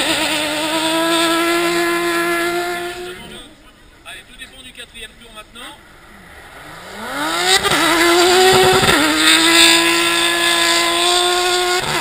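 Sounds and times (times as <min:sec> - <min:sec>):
car engine revving: 0:00.0 - 0:04.0, 0:05.4 - 0:12.0.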